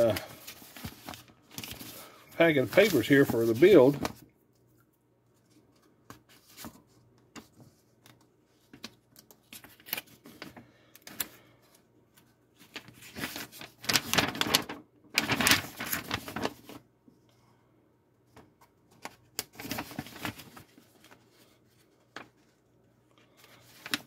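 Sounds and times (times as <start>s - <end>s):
paper booklet rustling: 0.0s - 4.7s, 5.3s - 16.8s, 18.3s - 24.0s.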